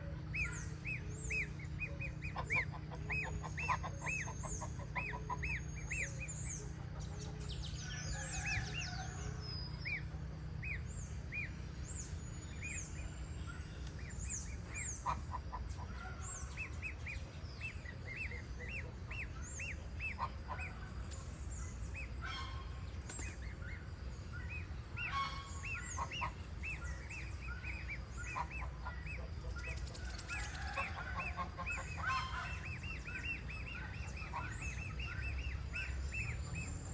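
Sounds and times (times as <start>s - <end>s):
goslings peeping: 0.0s - 36.9s
steady low rumble: 0.0s - 36.9s.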